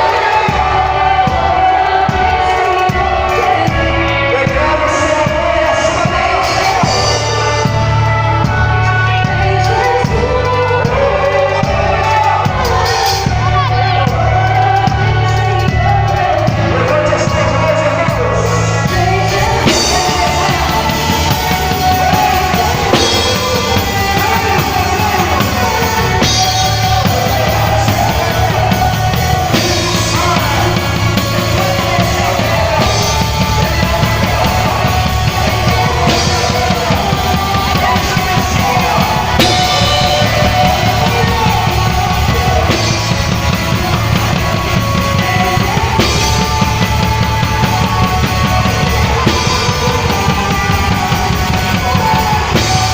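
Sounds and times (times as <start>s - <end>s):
band playing rock music: 0.0s - 52.9s
drum kit: 0.0s - 52.9s
person singing: 0.0s - 52.9s.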